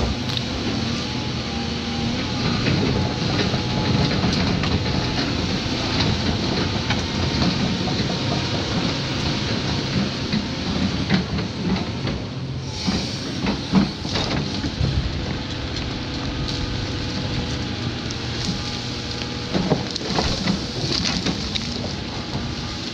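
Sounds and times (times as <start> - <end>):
excavator engine running: 0.0 - 22.9.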